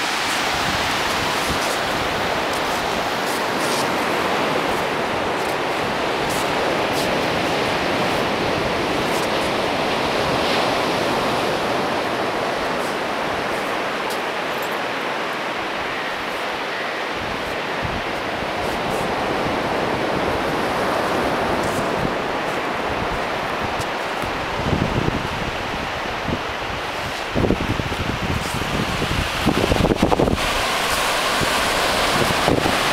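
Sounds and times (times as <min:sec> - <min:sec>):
ocean surf: 0:00.0 - 0:32.9.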